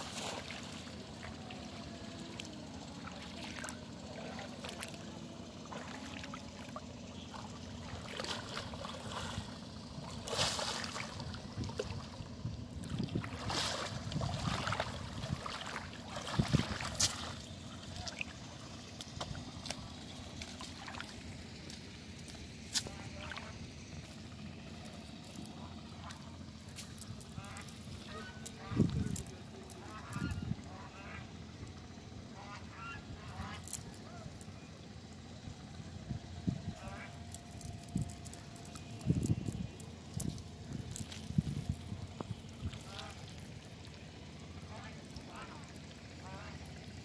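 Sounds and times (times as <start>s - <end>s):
river water splashing: 0.0s - 35.9s, 36.5s - 47.0s.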